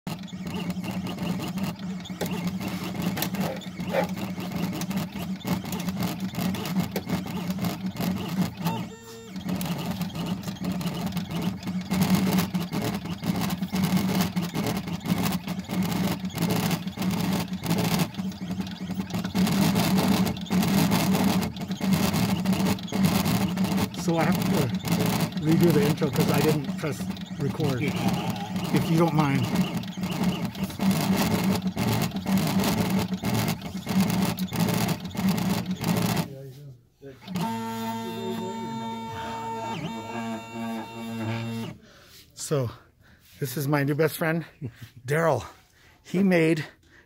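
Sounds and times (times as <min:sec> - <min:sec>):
engraving machine motor hum: 0:00.1 - 0:36.3, 0:37.2 - 0:41.8.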